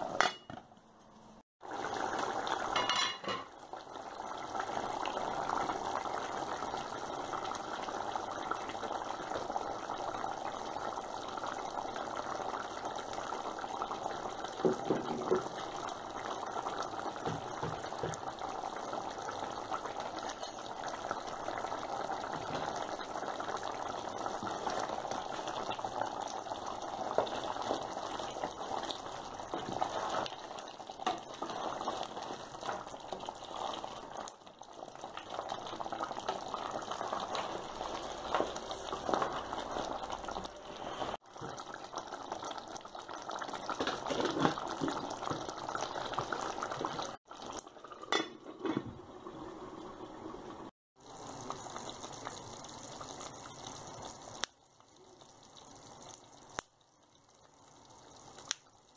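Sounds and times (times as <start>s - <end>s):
pot boiling and bubbling: 1.2s - 58.9s.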